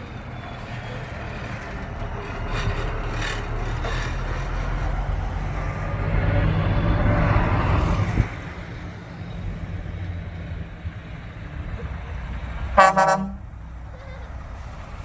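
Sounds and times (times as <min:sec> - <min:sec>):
truck diesel engine passing: 0:00.0 - 0:15.0.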